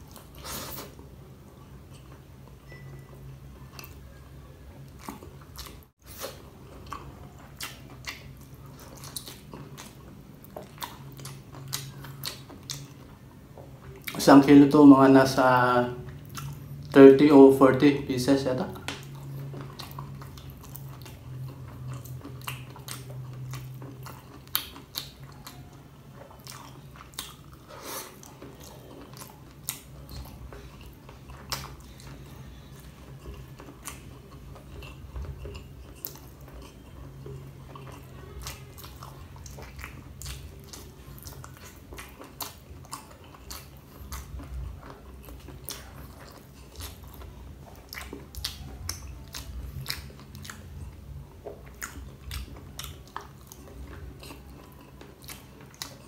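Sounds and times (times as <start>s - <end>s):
faint low hum: 0.0s - 56.0s
chewing and biting food: 4.8s - 17.9s, 18.6s - 56.0s.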